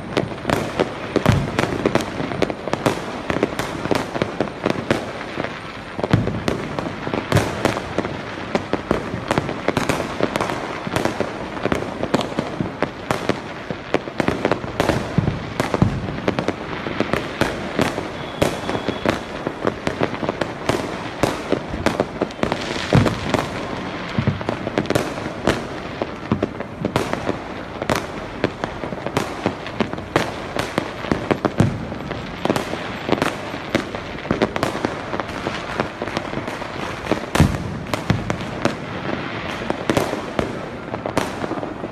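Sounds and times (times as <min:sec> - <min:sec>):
firecrackers crackling: 0:00.0 - 0:41.9
fireworks bangs: 0:00.0 - 0:41.9.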